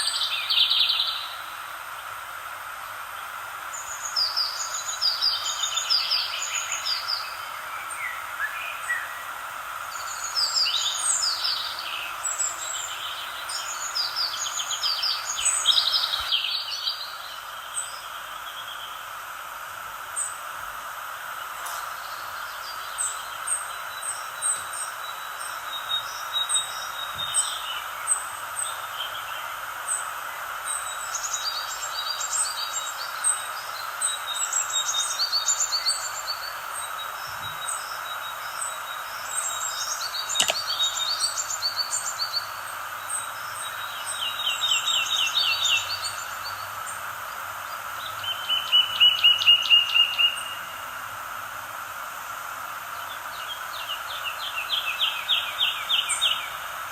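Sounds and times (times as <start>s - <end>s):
songbirds chirping: 0.0s - 56.9s
steady background hiss: 0.0s - 56.9s.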